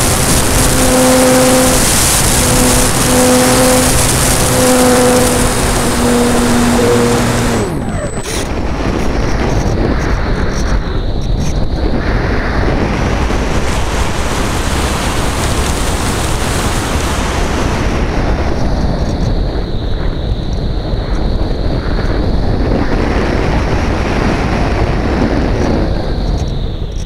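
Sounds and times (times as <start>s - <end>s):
electric motor and propeller: 0.0s - 27.0s
wind rushing over camera: 0.0s - 27.0s.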